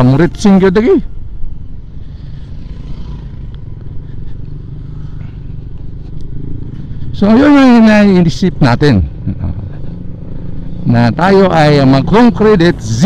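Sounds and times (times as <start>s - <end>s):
road and wind noise: 0.0s - 13.0s
scooter engine drone: 0.0s - 13.0s.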